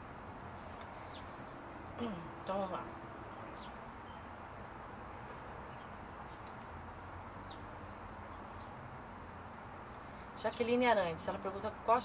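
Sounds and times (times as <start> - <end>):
background hiss: 0.0 - 11.8
birds chirping: 0.6 - 11.9.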